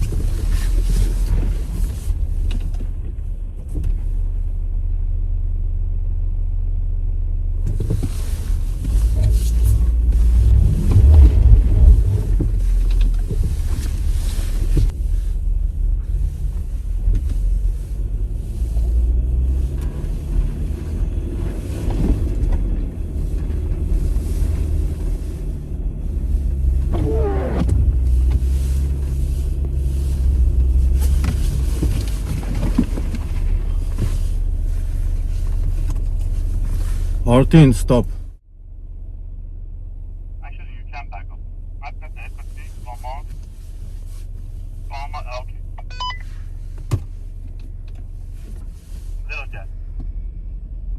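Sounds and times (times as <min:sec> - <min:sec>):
car engine rumbling: 0:00.0 - 0:50.9.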